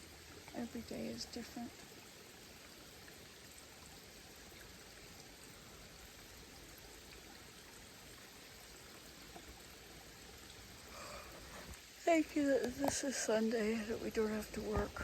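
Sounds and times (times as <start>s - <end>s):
faint rushing waterfall: 0.0s - 15.0s.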